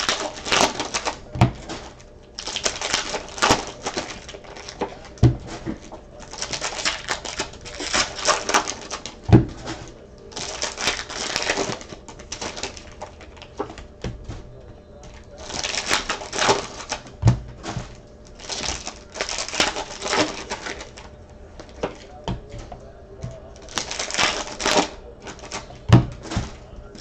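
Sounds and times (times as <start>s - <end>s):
cards rustling and flicking: 0.0s - 27.0s.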